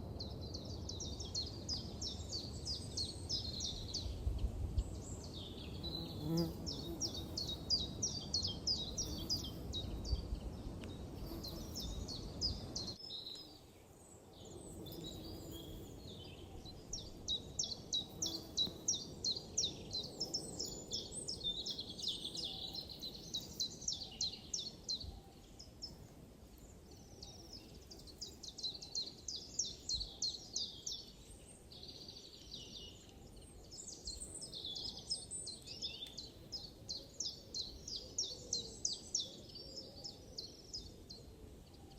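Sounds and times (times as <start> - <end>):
small birds chirping and trilling: 0.0 - 41.9.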